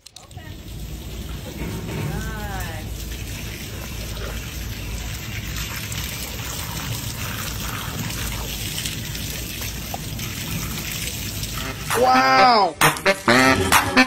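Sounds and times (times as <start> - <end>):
water trickling: 0.0 - 12.7
water from hose running: 0.0 - 12.8.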